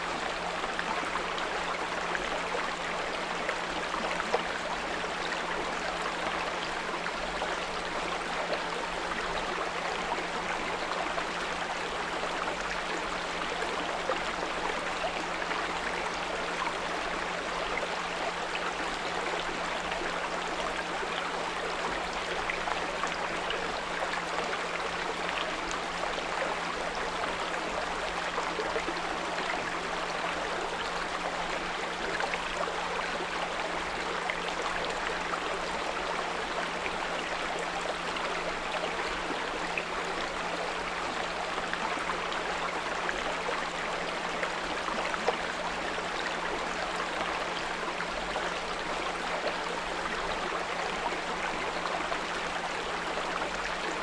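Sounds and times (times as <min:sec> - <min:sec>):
small brook trickling: 0:00.0 - 0:54.0.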